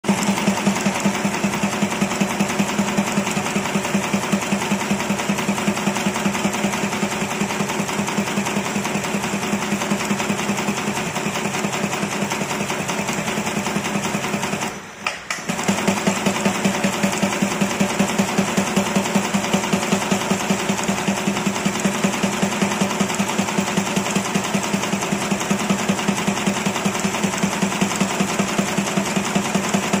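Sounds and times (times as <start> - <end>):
tufting machine rhythmic clatter: 0.1 - 14.7, 15.5 - 30.0.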